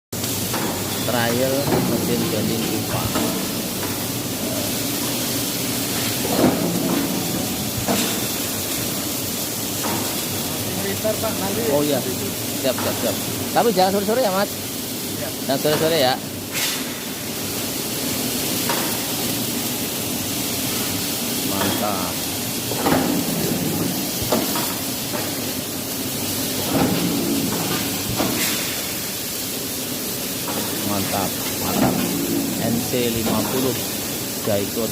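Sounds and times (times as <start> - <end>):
factory machinery hiss and hum: 0.2 - 34.9.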